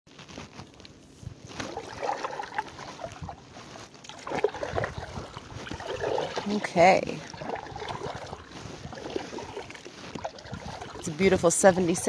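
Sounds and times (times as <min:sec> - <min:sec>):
water lapping against hull: 0:01.3 - 0:12.0.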